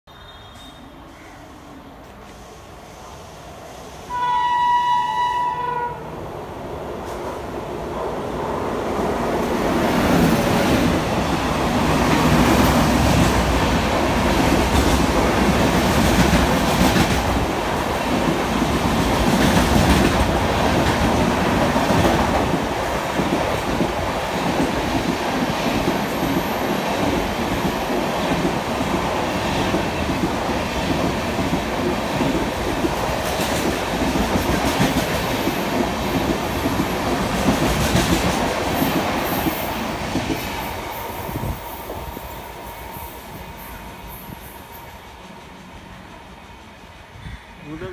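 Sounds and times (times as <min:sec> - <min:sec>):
electric locomotive passing: 0:00.1 - 0:47.9
train coaches rushing by: 0:00.1 - 0:47.9.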